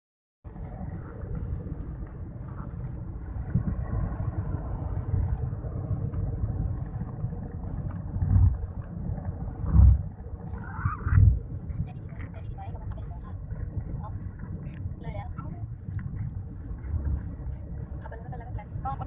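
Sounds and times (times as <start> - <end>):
vehicle road noise rumble: 0.4 - 19.0.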